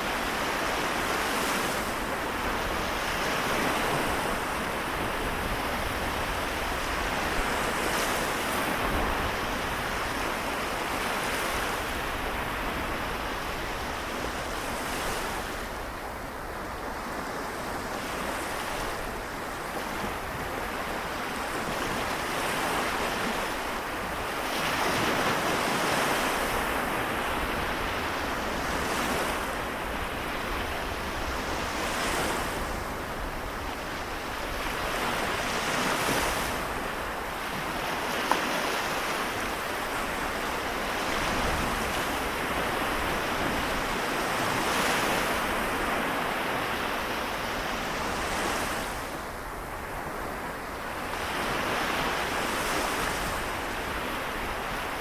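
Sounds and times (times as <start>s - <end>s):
waves washing onto shore: 0.0s - 55.0s.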